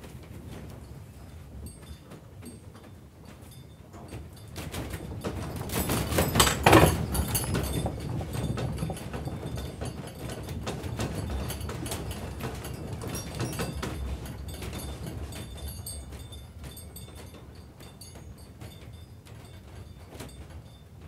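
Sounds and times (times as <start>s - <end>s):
objects rattling and creaking: 0.0s - 21.0s.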